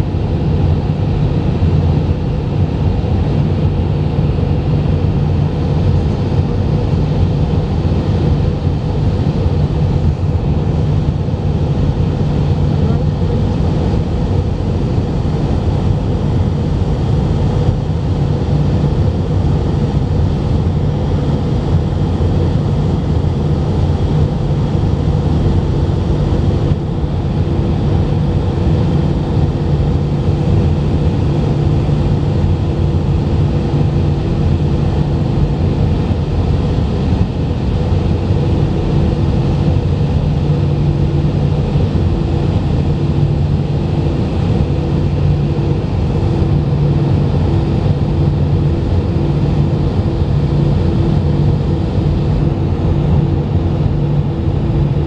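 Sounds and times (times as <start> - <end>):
airliner cabin engine drone: 0.0 - 55.0.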